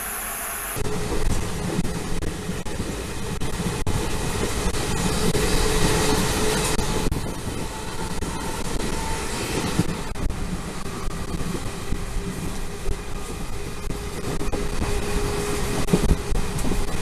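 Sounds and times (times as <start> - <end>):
train wheel and track noise: 0.0 - 17.0.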